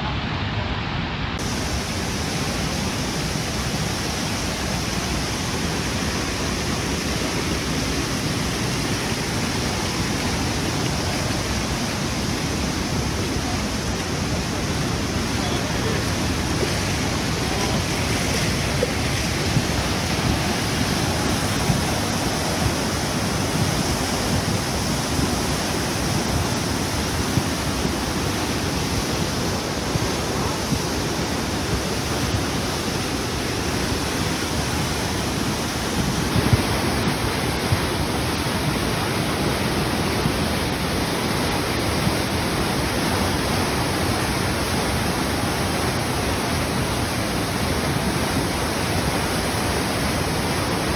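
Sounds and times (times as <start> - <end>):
water rushing over rocks: 0.0 - 50.9.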